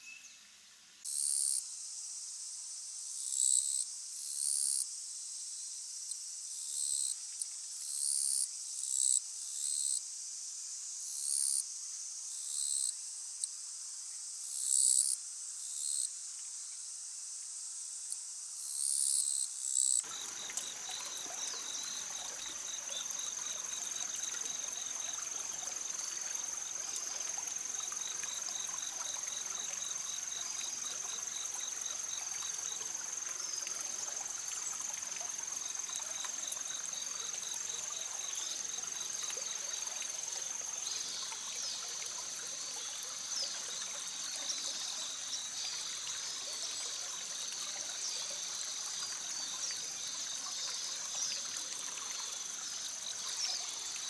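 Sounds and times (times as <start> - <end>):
trickling water hiss: 0.0 - 54.0.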